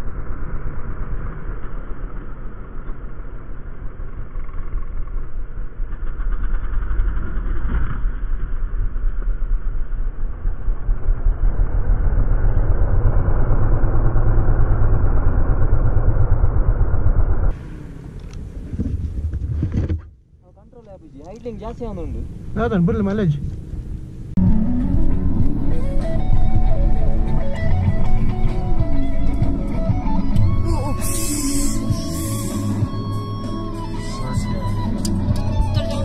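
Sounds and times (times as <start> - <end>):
motorcycle engine rumbling: 0.0 - 36.0.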